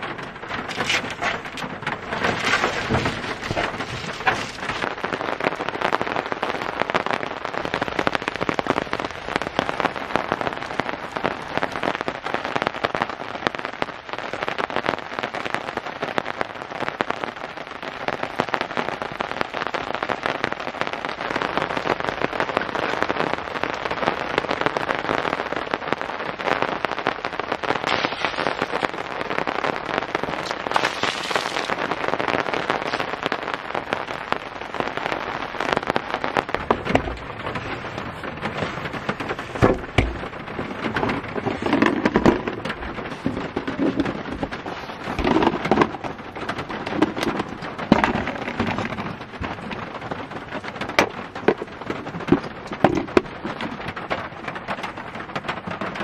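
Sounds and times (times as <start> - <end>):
heavy rain on metal roof: 0.0 - 56.0.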